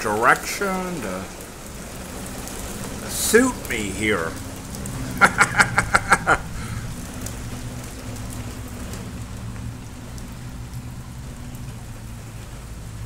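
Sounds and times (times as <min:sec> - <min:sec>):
rain on a tin roof: 0:00.0 - 0:13.0.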